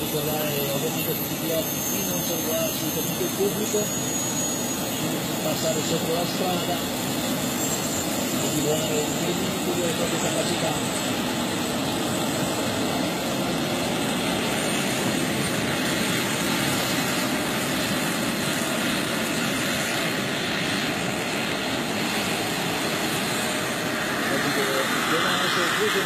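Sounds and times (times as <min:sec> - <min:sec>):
model helicopter engine: 0:00.0 - 0:26.0.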